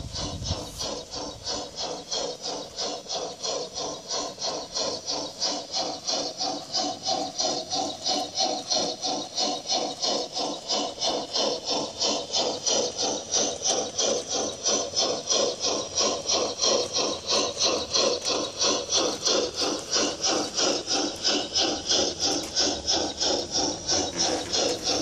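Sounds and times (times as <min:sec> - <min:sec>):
model steam locomotive chuffs: 0:00.0 - 0:25.0.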